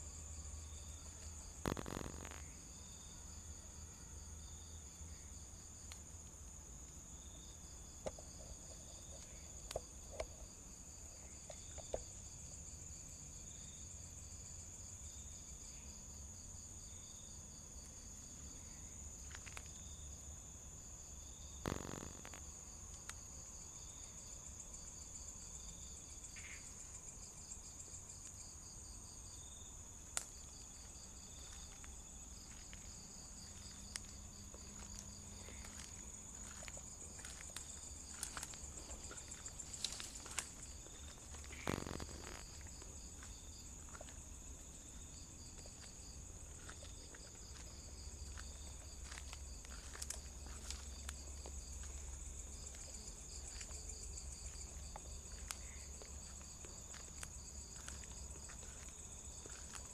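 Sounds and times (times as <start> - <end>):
high-pitched insect trill: 0.0 - 5.9, 7.0 - 59.9
crickets chirping: 0.0 - 59.9.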